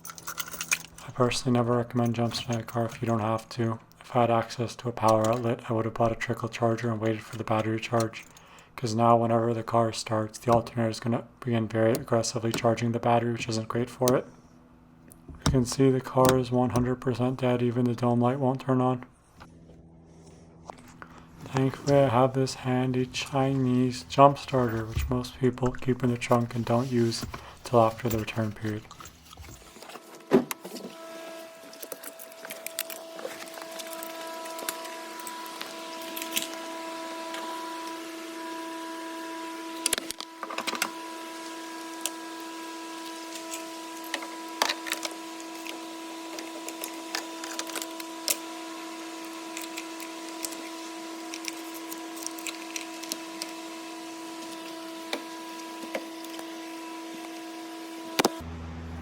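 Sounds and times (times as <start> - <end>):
steady hum: 0.1 - 59.0.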